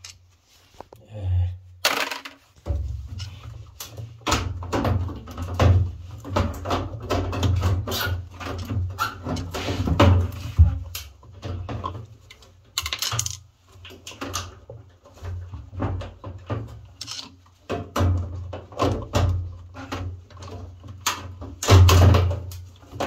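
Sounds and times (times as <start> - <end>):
hard objects clicking and clattering: 1.8 - 23.0.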